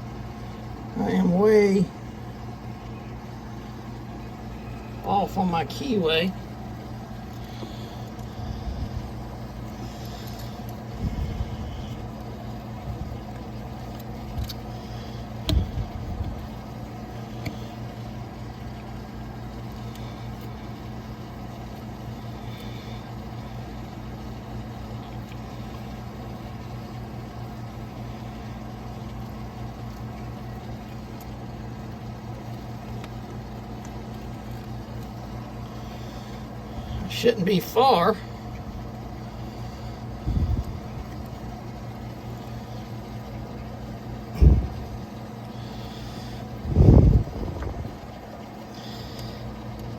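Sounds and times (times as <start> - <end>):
low mechanical hum: 0.0 - 49.9.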